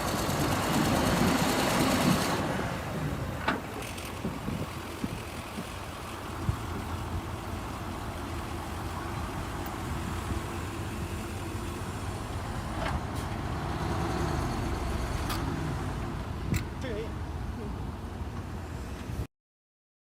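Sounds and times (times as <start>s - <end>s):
construction machinery rumble: 0.0s - 19.2s.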